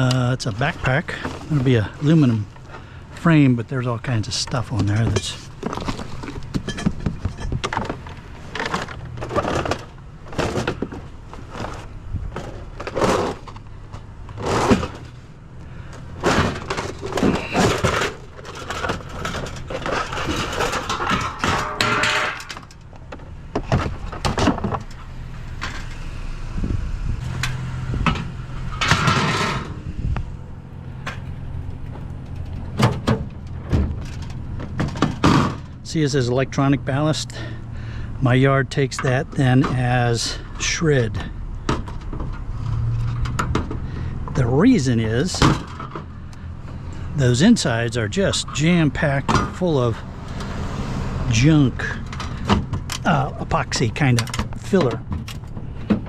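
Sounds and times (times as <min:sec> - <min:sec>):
scrap clanking and rattling: 0:00.0 - 0:26.1, 0:27.2 - 0:30.2, 0:30.9 - 0:56.0.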